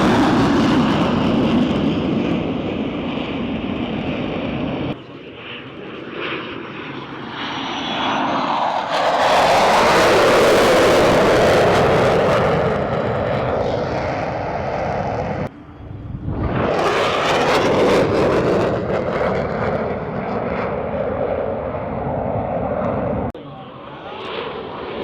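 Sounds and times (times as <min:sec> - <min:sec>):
jet aircraft roaring past: 0:00.0 - 0:25.0.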